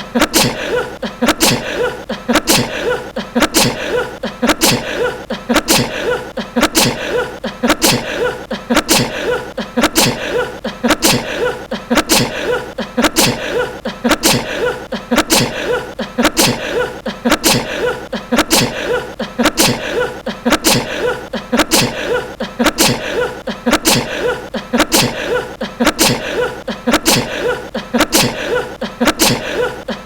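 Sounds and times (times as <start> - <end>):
man sneezing: 0.0 - 30.0.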